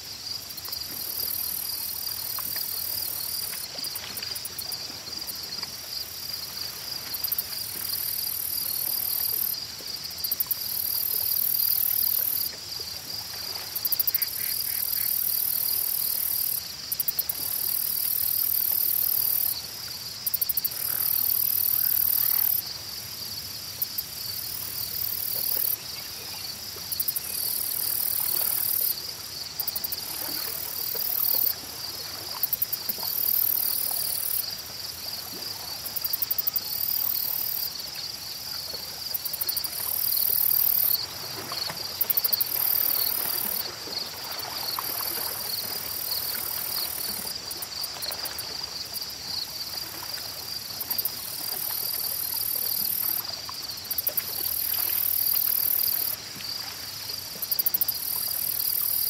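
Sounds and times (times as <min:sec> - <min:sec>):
steady high insect trill: 0:00.0 - 0:13.2, 0:13.8 - 0:56.6, 0:57.5 - 0:59.0
insects chorus: 0:00.0 - 0:59.0.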